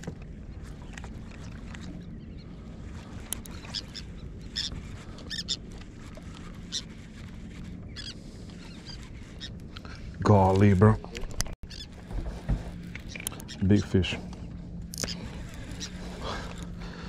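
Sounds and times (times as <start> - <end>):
wind and water rumble: 0.0 - 17.0
seabirds crying: 0.1 - 11.0, 11.6 - 17.0.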